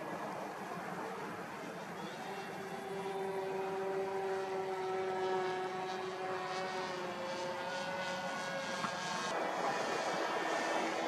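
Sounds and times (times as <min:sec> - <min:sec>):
propeller droning overhead: 0:00.0 - 0:11.0.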